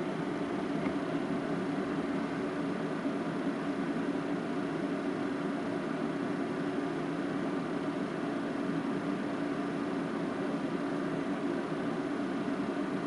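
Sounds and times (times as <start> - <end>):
background hum with hiss: 0.0 - 13.0.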